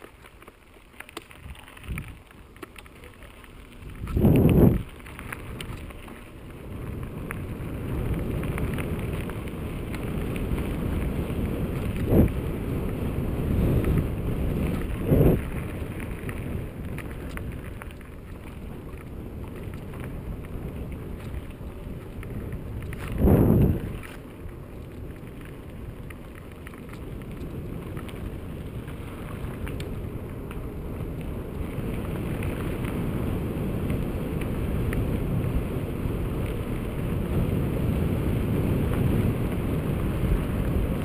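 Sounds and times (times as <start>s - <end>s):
tyres rolling on gravel: 0.0s - 41.0s
wind buffeting microphone: 1.3s - 2.3s, 3.0s - 41.0s.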